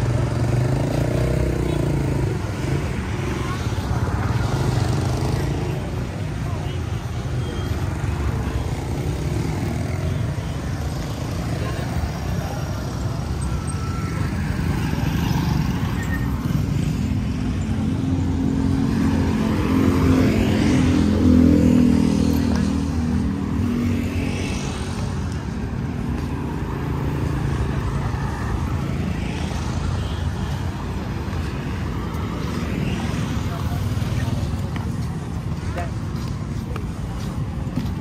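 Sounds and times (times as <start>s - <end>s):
motor vehicle engines running: 0.0s - 38.0s.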